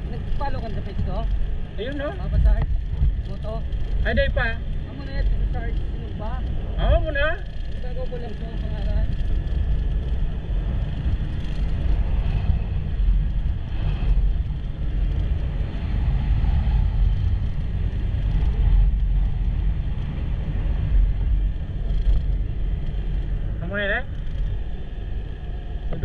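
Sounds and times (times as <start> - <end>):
vehicle rumbling: 0.0 - 26.0.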